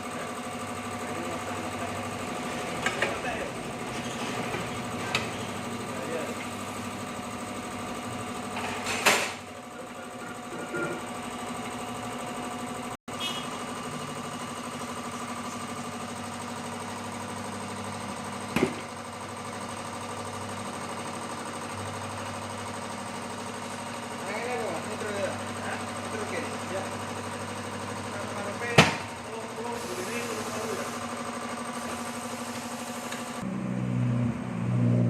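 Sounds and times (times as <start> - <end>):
machine motor running: 0.0 - 35.0.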